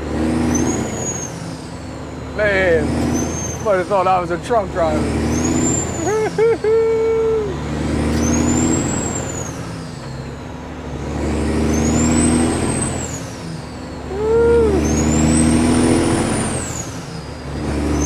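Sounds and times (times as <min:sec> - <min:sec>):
diesel truck engine accelerating: 0:00.0 - 0:18.0.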